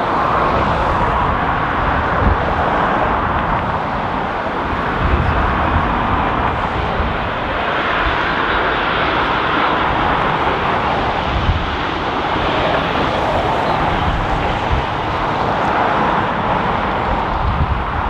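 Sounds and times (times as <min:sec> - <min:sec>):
gusty wind on microphone: 0:00.0 - 0:18.0
jet engines rushing: 0:00.0 - 0:18.0.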